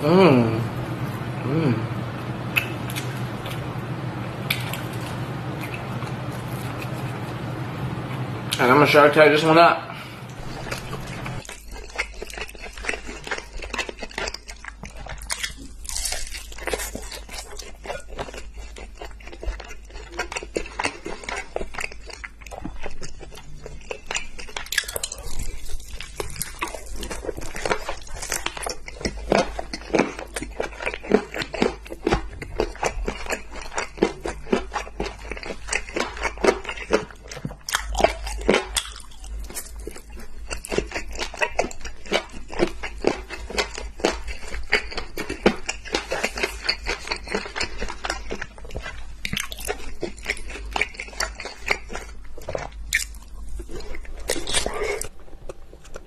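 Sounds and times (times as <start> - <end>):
chewing and biting chicken: 10.3 - 56.0.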